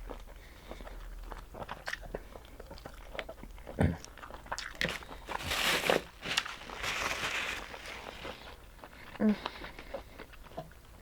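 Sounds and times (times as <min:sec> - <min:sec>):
chewing and biting seafood: 0:00.0 - 0:11.0.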